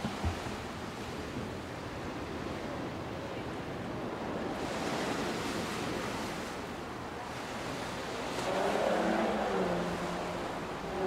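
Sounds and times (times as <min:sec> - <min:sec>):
rough sea: 0:00.0 - 0:11.0.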